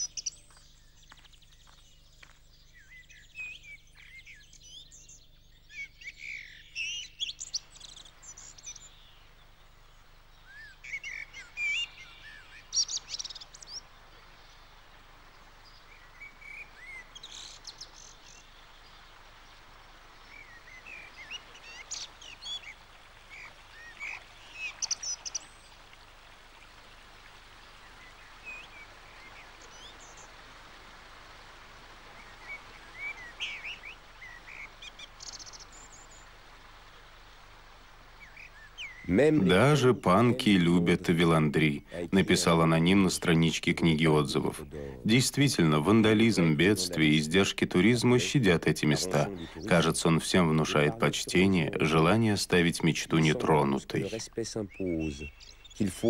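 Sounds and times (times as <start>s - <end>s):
soft background hiss: 0.0s - 56.0s
songbirds chirping: 0.0s - 56.0s.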